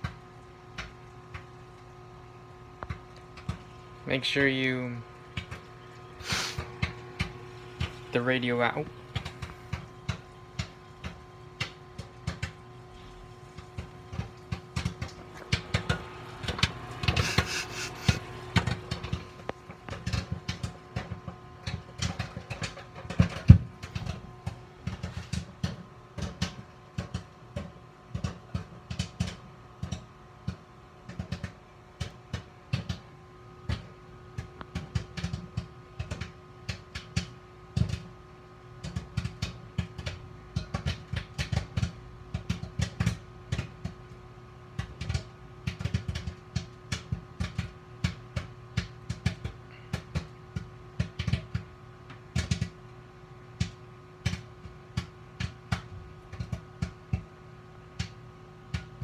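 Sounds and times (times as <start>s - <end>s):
microwave oven hum: 0.0s - 59.0s
popcorn popping: 0.0s - 59.0s.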